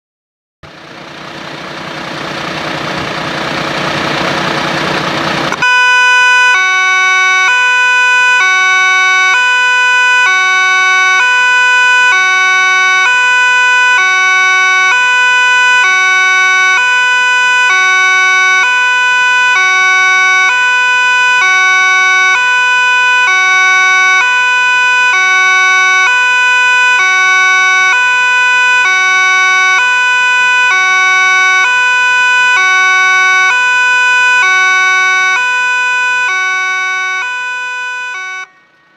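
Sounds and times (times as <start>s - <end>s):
fire engine two-tone siren: 0.6s - 38.9s.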